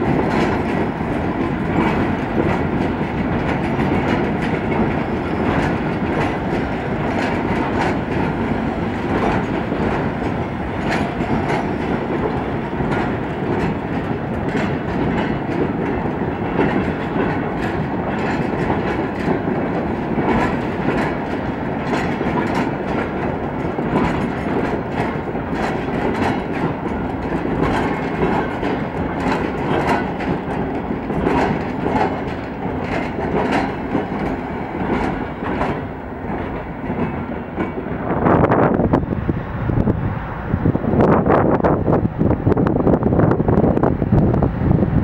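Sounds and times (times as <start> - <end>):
train wheels clicking over rail joints: 0.0 - 39.2.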